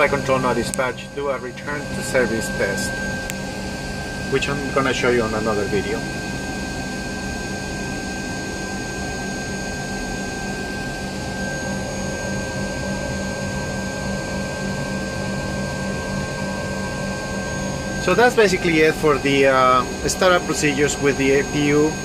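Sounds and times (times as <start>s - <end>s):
aircraft cockpit drone: 0.0s - 22.0s
constant whining tones: 0.0s - 22.0s.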